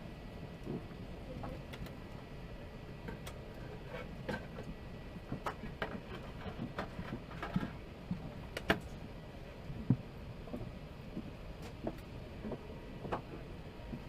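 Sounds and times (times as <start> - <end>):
aircraft air systems hum: 0.0 - 14.0.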